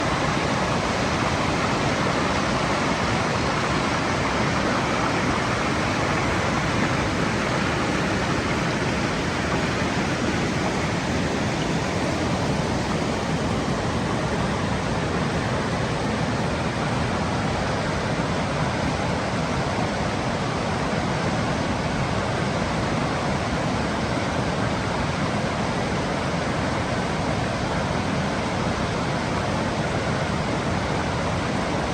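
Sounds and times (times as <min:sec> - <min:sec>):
creek water rushing: 0:00.0 - 0:31.9.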